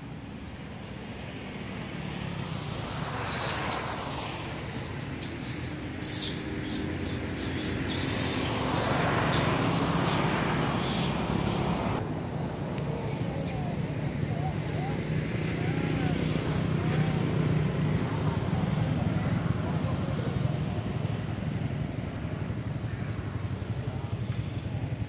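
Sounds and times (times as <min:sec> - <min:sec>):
traffic passing: 0:00.0 - 0:25.0.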